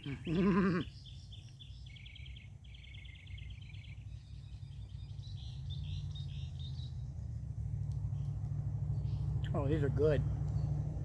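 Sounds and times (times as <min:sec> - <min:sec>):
small birds chirping: 0:00.0 - 0:11.0
low steady rumble: 0:01.0 - 0:11.0.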